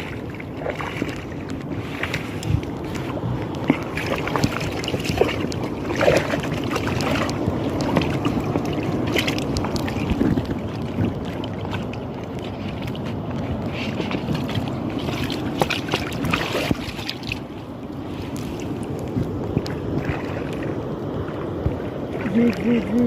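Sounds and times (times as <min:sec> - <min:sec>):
sea water splashing and lapping: 0:00.0 - 0:23.0
small splashes and knocks: 0:00.0 - 0:23.0
wind on microphone: 0:00.0 - 0:23.0.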